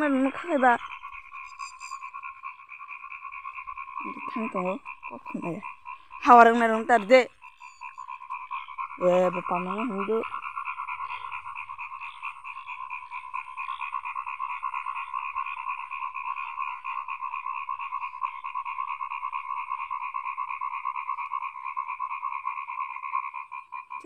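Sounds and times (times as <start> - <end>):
chorus of frogs calling: 0.0 - 24.0.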